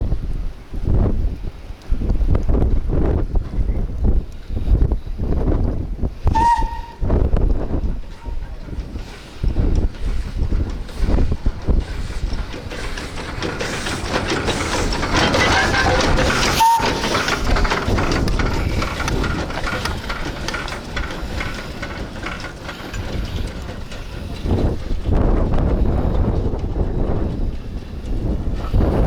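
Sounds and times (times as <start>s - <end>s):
steam hissing: 4.3s - 29.0s
wheels clicking over rails: 5.6s - 29.0s.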